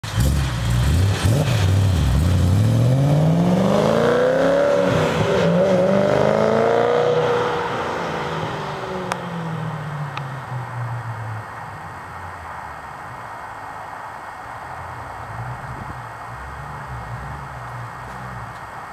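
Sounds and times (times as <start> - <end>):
car engine accelerating hard: 0.0 - 12.4, 14.7 - 18.9.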